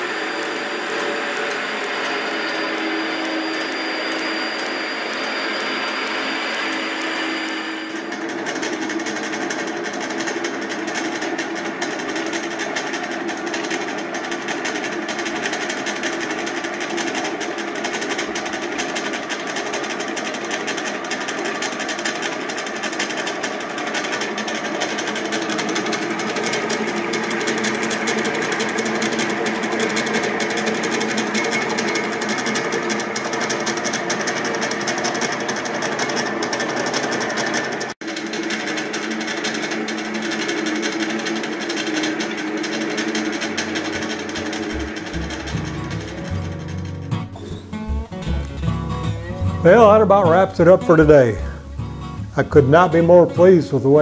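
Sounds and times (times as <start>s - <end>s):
drill press motor whirring: 0.0s - 48.0s.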